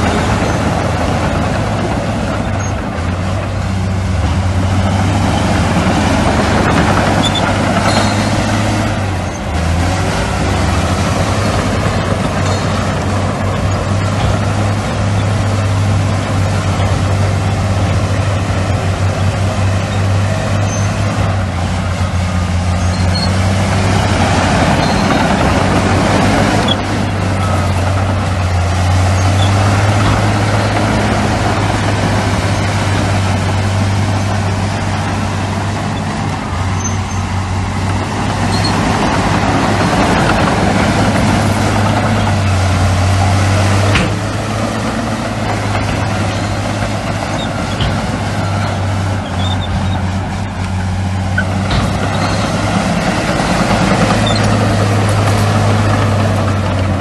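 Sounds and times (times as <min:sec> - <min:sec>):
heavy diesel machinery engines droning: 0:00.0 - 0:57.0.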